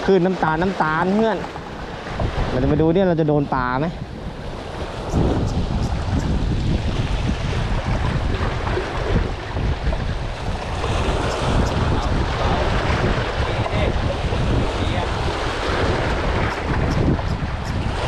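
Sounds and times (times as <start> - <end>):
waves breaking on shore: 0.0 - 18.0
wind buffeting microphone: 0.0 - 18.0.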